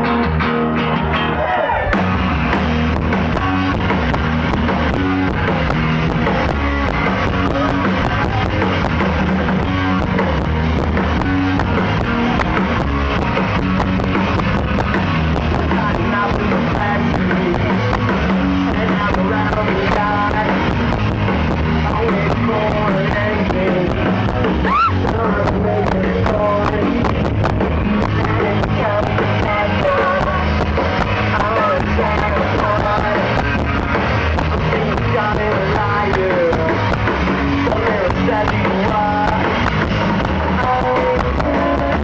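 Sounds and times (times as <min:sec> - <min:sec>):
rock band playing live: 0:00.0 - 0:42.0.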